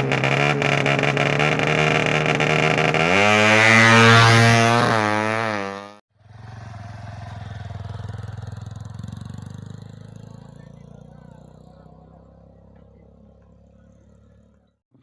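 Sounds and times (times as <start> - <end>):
motorcycle engine revving high: 0.0 - 14.8
faint motorcycle engine: 0.0 - 15.0.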